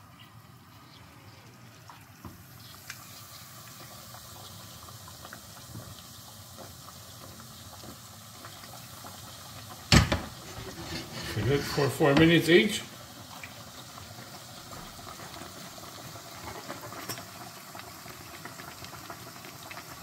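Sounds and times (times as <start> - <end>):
food sizzling in a pan: 0.1 - 20.0.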